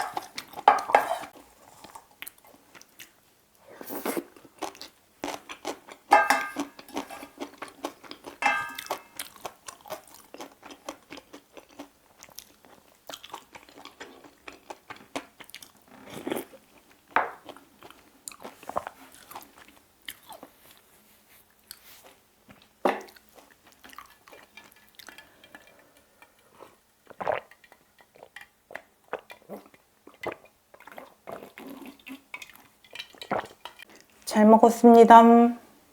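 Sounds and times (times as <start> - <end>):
chewing and crunching food: 0.0 - 34.2.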